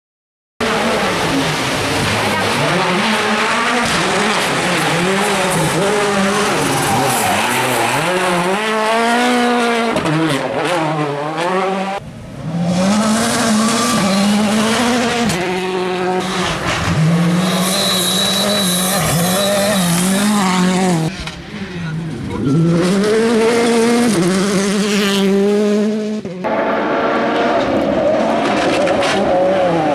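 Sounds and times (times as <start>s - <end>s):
car accelerating hard: 0.6s - 29.9s
rally car engines revving: 0.6s - 29.9s.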